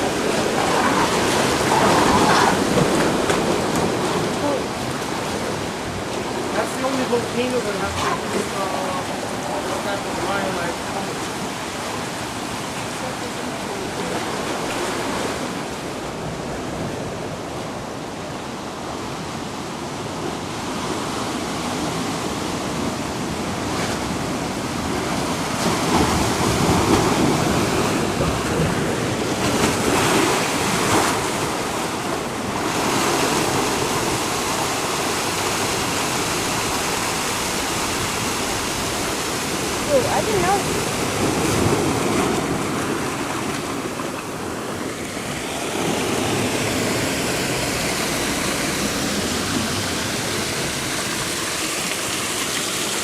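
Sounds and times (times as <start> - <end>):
surf washing against rocks: 0.0 - 53.0.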